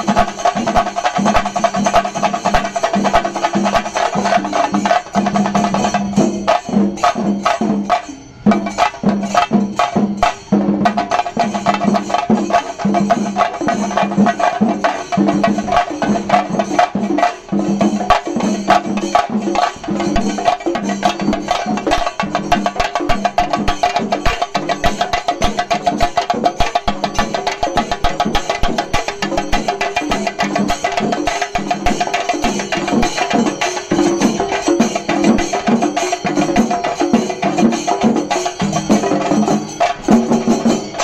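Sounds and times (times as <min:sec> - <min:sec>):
drums beaten rapidly with sticks: 0:00.0 - 0:41.0.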